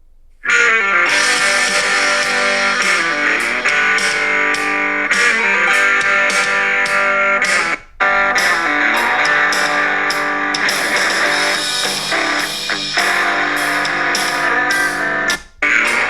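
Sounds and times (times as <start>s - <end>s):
guitar rock music through phone speaker: 0.4s - 16.0s.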